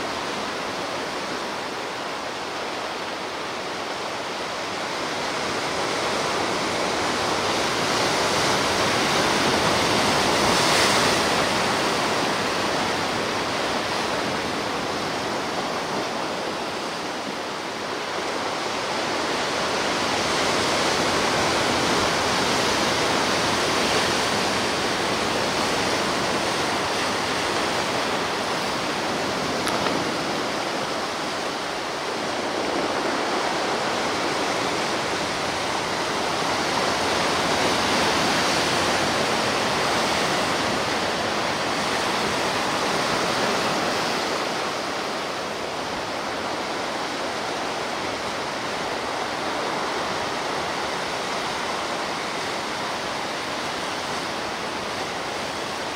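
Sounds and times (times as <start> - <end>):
sea surf washing onto shore: 0.0 - 55.9
waves breaking: 0.0 - 55.9.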